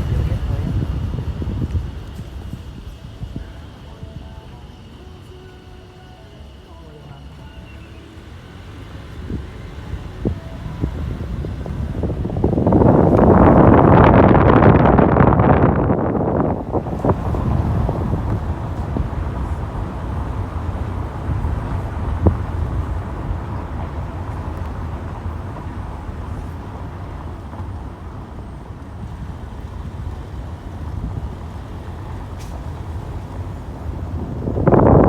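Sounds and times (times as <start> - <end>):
vehicle road rumble: 0.0 - 35.0.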